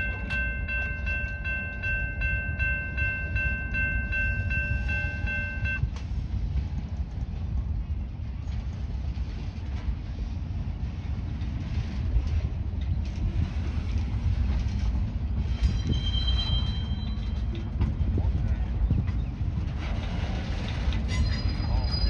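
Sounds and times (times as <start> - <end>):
diesel freight train rumbling: 0.0 - 22.0.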